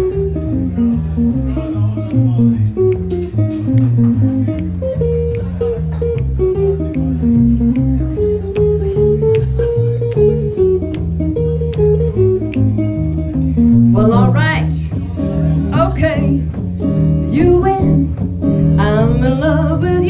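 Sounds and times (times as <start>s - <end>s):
bass guitar line: 0.0s - 20.0s
guitar melody: 0.0s - 20.0s.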